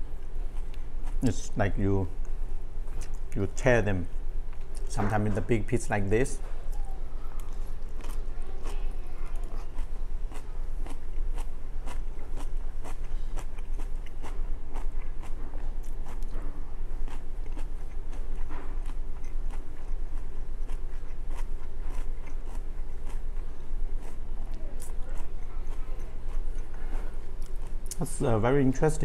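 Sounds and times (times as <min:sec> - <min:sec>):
man chewing crunchy food: 0:00.0 - 0:03.6, 0:07.4 - 0:28.2
steady low hum: 0:00.0 - 0:29.0.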